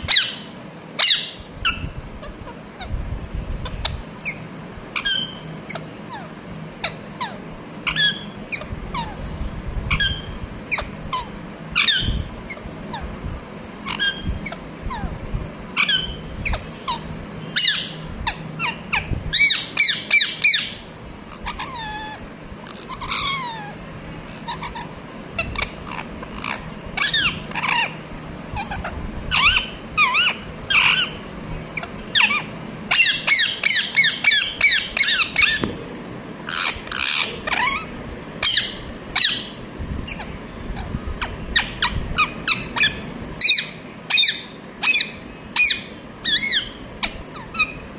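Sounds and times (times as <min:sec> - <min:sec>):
parrot chirping: 0:00.0 - 0:02.9, 0:03.6 - 0:09.2, 0:09.9 - 0:13.1, 0:13.8 - 0:15.1, 0:15.8 - 0:23.8, 0:24.4 - 0:28.0, 0:28.6 - 0:31.2, 0:31.8 - 0:35.7, 0:36.4 - 0:47.9.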